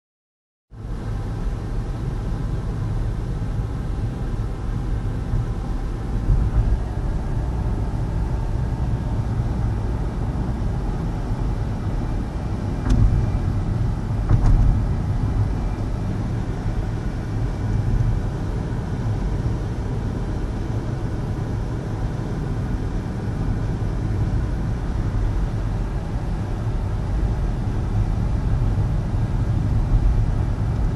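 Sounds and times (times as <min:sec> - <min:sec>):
car road and tyre noise: 0:00.7 - 0:30.9.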